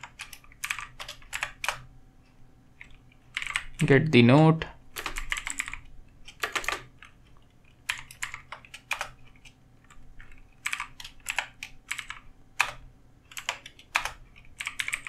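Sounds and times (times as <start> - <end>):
computer keyboard typing: 0.0 - 1.9, 2.8 - 3.9, 4.9 - 15.0.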